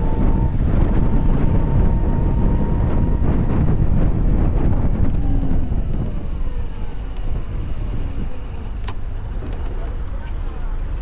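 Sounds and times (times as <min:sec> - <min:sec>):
thin steady whine: 0:00.0 - 0:10.8
wind buffeting microphone: 0:00.0 - 0:11.0.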